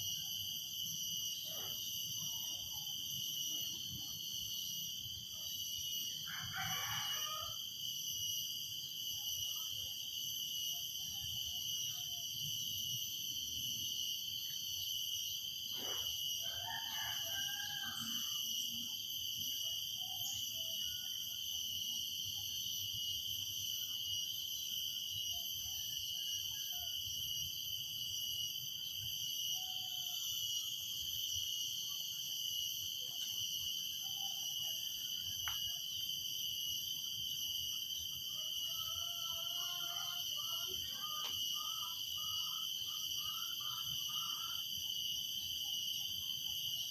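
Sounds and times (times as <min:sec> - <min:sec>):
cicadas droning: 0:00.0 - 0:46.9.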